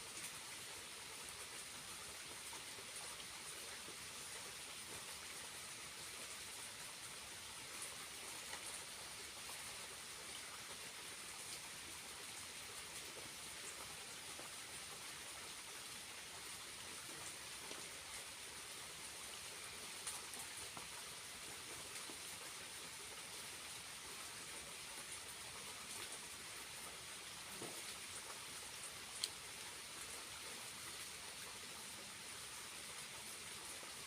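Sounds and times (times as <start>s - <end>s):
faint water drips: 0.0s - 34.0s
small waterfall splashing: 0.0s - 34.0s.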